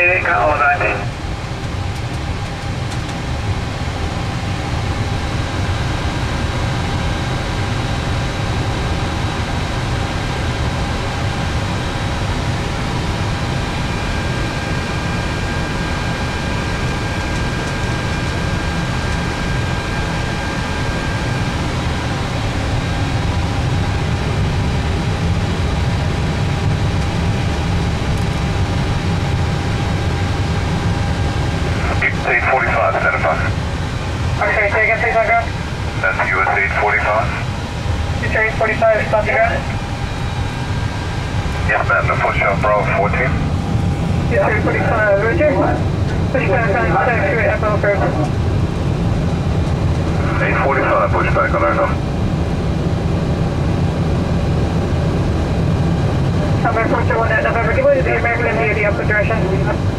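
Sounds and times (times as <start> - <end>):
jet engine rumble and hiss: 0.0 - 59.9.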